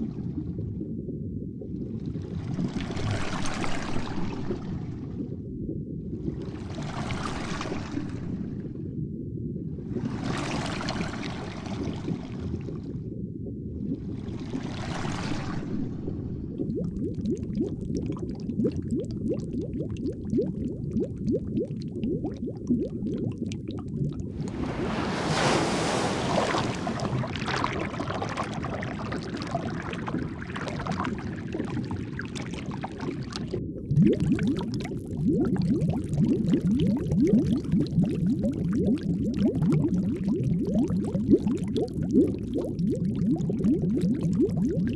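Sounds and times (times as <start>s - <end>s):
underwater bubbling rumble: 0.0s - 44.9s.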